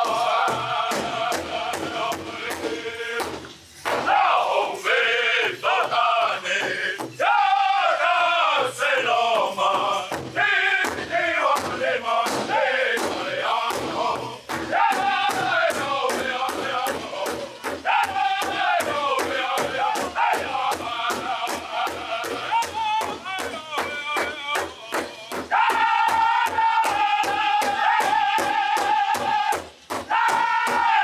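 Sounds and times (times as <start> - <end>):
men chanting high-pitched: 0.0 - 3.2, 4.0 - 31.0
big drum beating: 0.0 - 7.6, 9.6 - 31.0.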